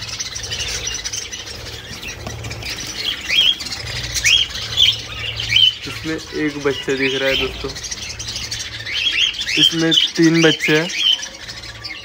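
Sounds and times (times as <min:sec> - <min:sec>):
budgerigars chirping and squawking: 0:00.0 - 0:12.0
low steady hum: 0:00.0 - 0:12.0.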